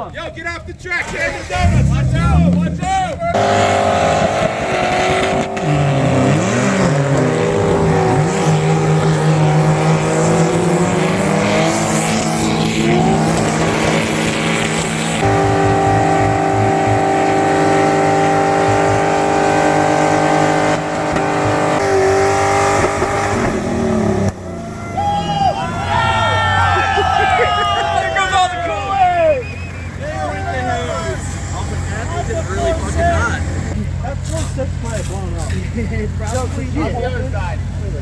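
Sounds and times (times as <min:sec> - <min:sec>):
tyre and exhaust noise: 0:00.0 - 0:38.0
car engines revving hard: 0:01.2 - 0:24.8, 0:25.6 - 0:38.0.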